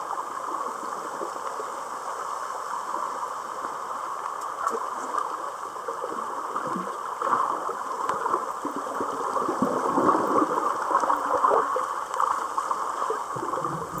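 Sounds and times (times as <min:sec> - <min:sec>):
small underwater crackles: 0:00.0 - 0:14.0
underwater rushing water: 0:00.0 - 0:14.0.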